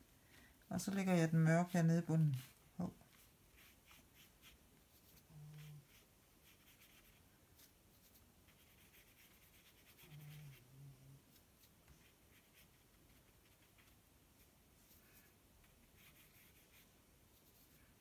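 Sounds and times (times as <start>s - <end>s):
paintbrush scratching on card: 0.8s - 18.0s.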